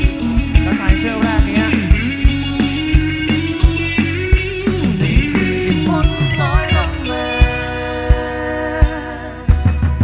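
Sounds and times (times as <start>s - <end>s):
man singing: 0.0s - 9.7s
pop-rock band playing: 0.0s - 10.0s.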